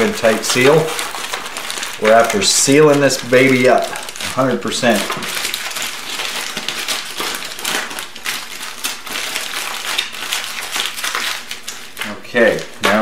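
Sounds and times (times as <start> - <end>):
aluminum foil crinkling: 0.0 - 13.0.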